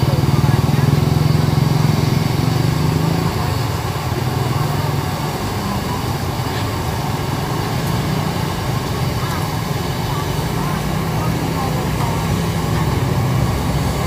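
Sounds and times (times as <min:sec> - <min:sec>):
low engine-like hum: 0:00.0 - 0:14.0
oil bubbling and sizzling: 0:00.0 - 0:14.0.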